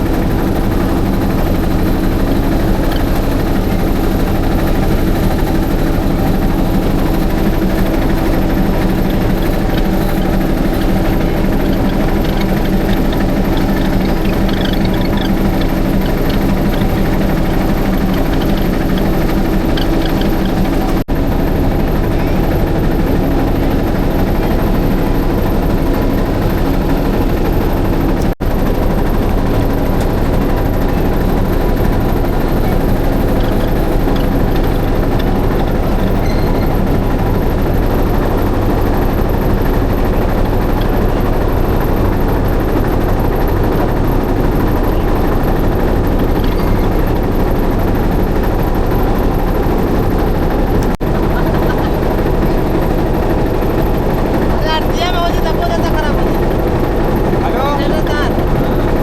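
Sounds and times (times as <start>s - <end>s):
motorboat engine running: 0.0s - 59.0s.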